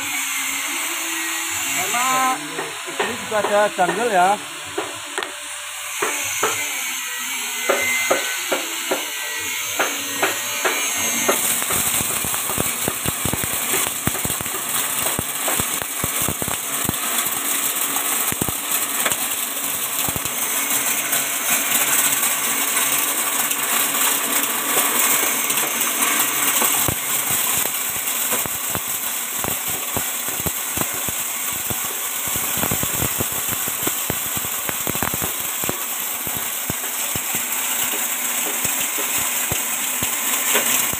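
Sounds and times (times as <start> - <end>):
grinder milling corn kernels: 0.0 - 40.9.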